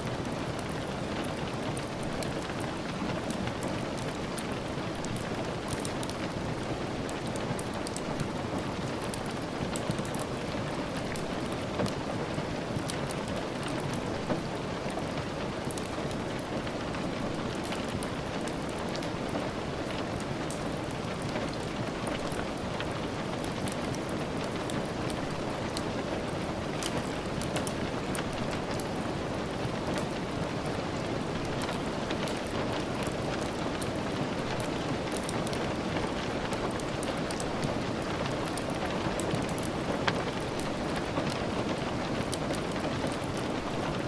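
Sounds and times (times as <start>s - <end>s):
steady rain hissing: 0.0s - 44.0s
wood fire crackling: 0.1s - 44.0s.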